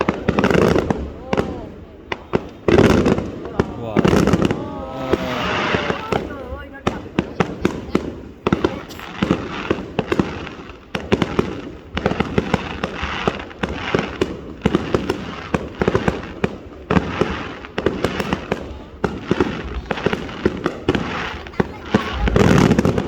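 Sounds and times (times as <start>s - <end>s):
firework bangs: 0.0s - 23.0s
firework crackle: 0.0s - 23.0s.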